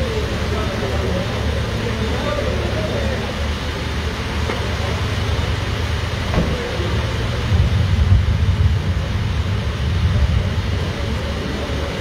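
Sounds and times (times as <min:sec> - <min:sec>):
fire engine motor rumbling: 0:00.0 - 0:12.0
heavy rain on pavement: 0:00.0 - 0:12.0.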